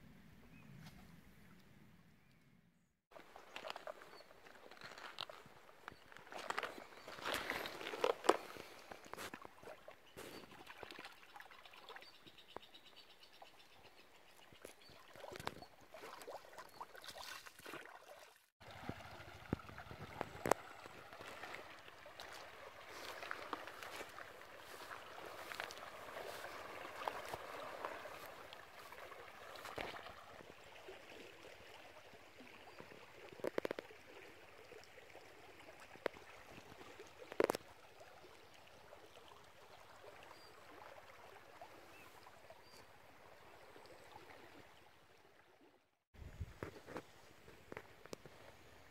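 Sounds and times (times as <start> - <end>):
river trickling over gravel: 3.1 - 12.8, 14.3 - 45.2.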